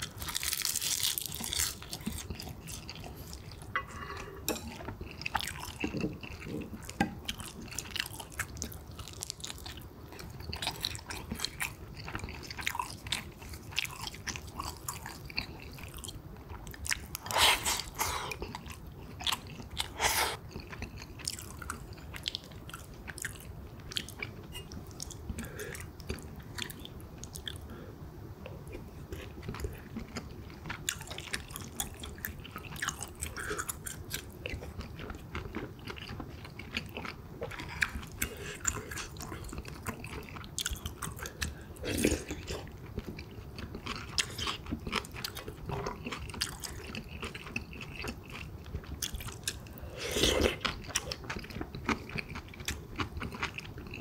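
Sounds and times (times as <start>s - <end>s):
person chewing food: 0.0s - 27.8s, 28.4s - 54.0s.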